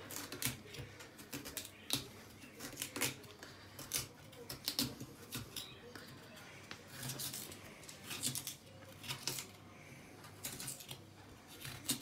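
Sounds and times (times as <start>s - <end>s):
knife cutting and scraping radish: 0.0s - 9.6s, 10.2s - 12.0s.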